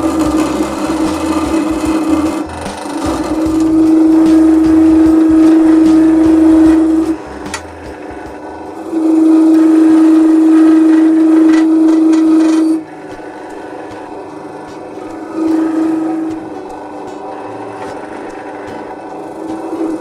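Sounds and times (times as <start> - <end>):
lathe machine running: 0.0 - 20.0.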